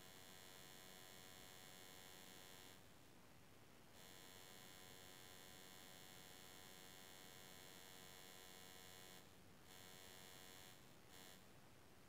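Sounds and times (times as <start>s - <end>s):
faint electrical hum and whine: 0.0s - 12.0s.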